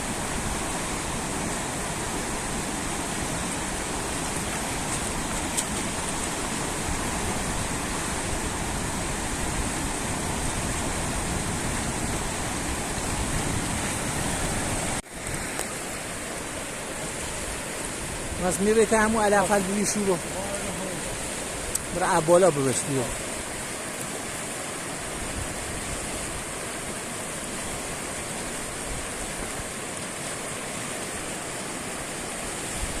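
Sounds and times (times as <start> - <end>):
river water rushing: 0.0 - 33.0.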